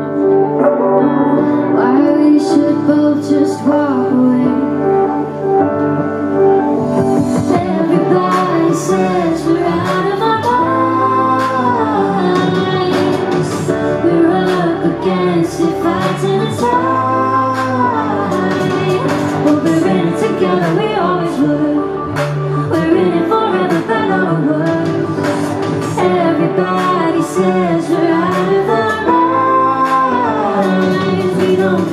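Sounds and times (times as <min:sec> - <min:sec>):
electronic keyboard: 0:00.0 - 0:31.9
woman singing: 0:01.3 - 0:05.3, 0:07.2 - 0:31.9.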